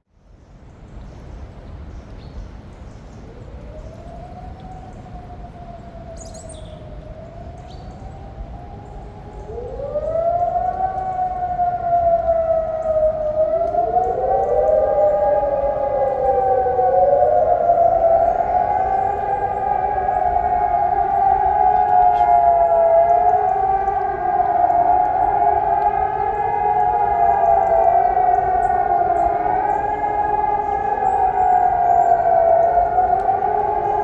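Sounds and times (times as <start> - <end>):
electronic sirens wailing: 3.3 - 34.0.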